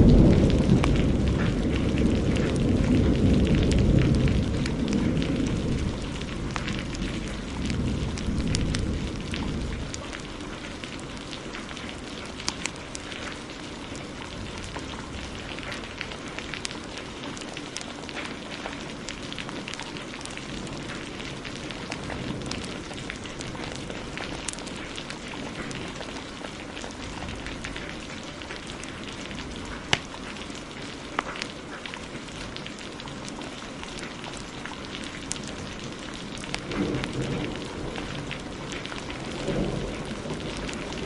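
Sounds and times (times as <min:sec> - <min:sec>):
thunder rumbling: 0:00.0 - 0:31.0, 0:32.3 - 0:41.0
heavy rain: 0:00.0 - 0:41.0
wood fire crackling: 0:00.0 - 0:41.0.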